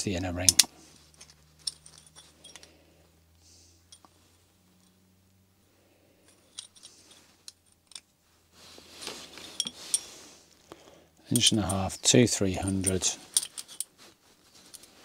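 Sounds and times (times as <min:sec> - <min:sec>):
low steady hum: 0:00.0 - 0:15.0
small steel parts clinking: 0:00.4 - 0:05.1, 0:06.1 - 0:08.2, 0:08.9 - 0:10.6, 0:11.2 - 0:15.0.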